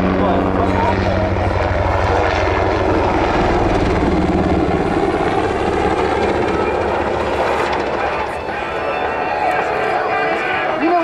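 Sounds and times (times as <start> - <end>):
helicopter rotor beat: 0.0 - 11.0.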